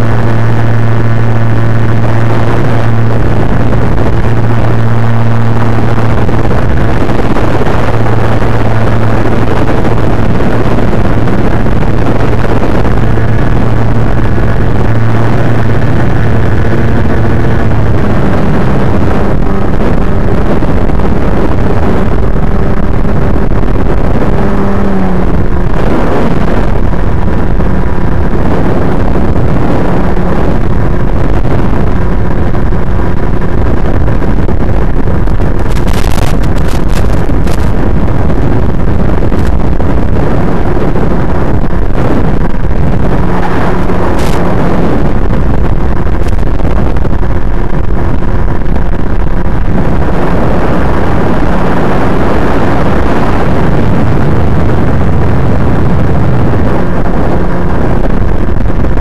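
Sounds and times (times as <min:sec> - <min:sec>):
electric motor and propeller hum: 0:00.0 - 0:59.0
wind rushing: 0:00.0 - 0:59.0.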